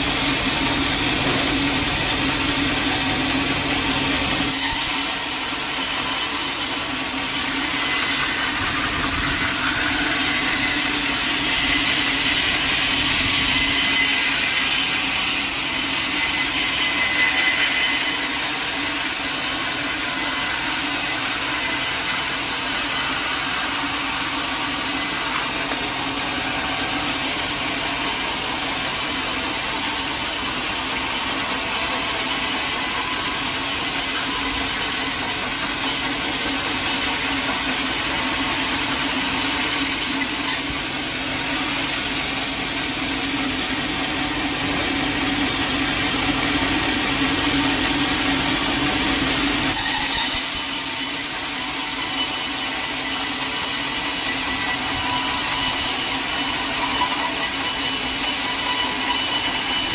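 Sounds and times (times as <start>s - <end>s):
saw cutting through a log: 0.0s - 59.9s.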